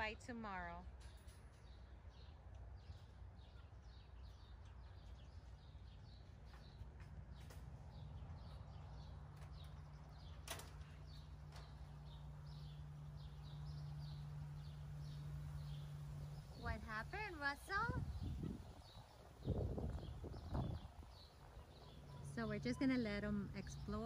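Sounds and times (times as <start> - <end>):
low steady hum: 0.0 - 24.0
bird chirping: 1.1 - 24.0.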